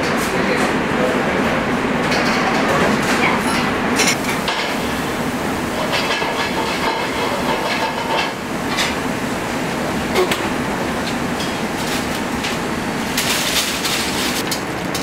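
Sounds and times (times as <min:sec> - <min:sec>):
kitchen background rush: 0:00.0 - 0:15.0.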